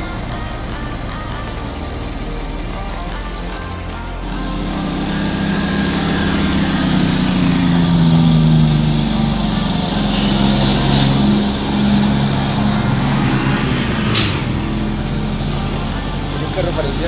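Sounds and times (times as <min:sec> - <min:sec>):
truck diesel engine passing: 0:00.0 - 0:17.0.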